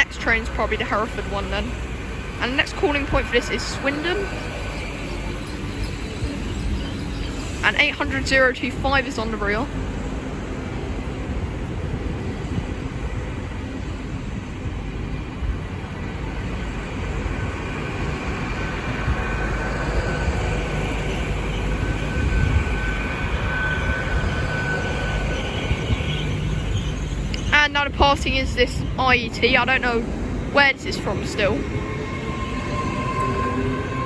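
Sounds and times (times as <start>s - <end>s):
thin whine: 0.0s - 9.8s, 15.7s - 34.0s
train rumbling: 0.0s - 34.0s.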